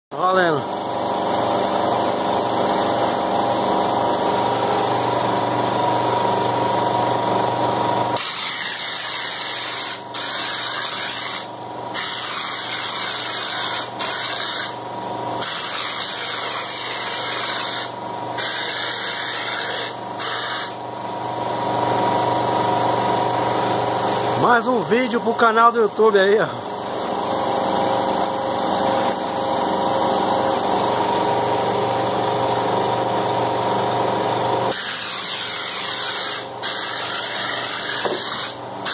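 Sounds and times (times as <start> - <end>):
air compressor humming: 0.2 - 38.9.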